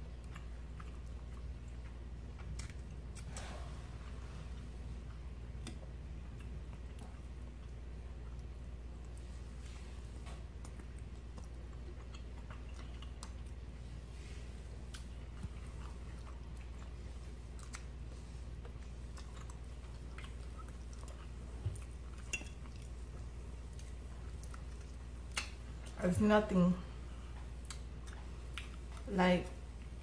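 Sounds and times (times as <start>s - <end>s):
people chewing: 0.0s - 26.0s, 26.9s - 30.0s.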